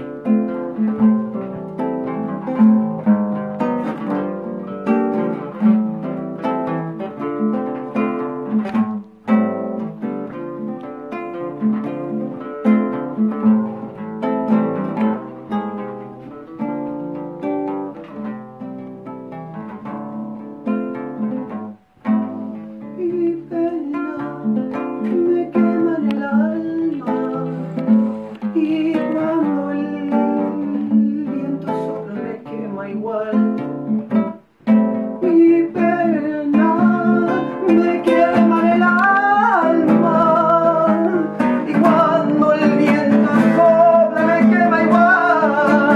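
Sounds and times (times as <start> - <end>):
acoustic guitar song: 0.0 - 45.9.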